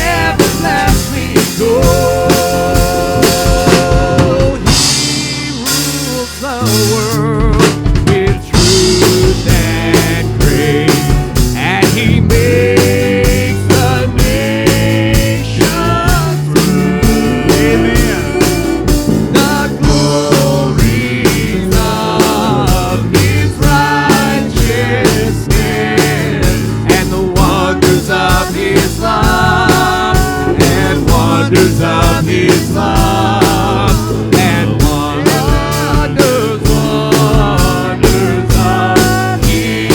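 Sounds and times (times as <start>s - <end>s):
drum kit beat: 0.0s - 39.9s
live praise band playing: 0.0s - 39.9s.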